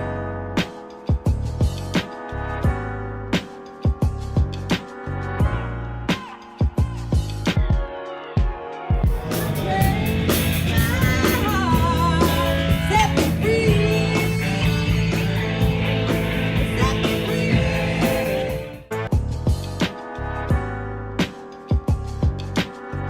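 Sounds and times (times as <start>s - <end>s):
rock and roll music with singing: 3.4s - 23.0s.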